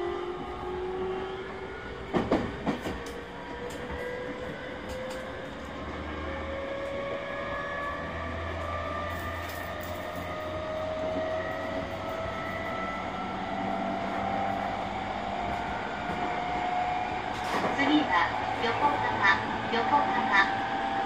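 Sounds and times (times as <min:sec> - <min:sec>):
rumble of wheels on rail: 0:00.0 - 0:21.0
traction motor whine rising: 0:03.0 - 0:21.0.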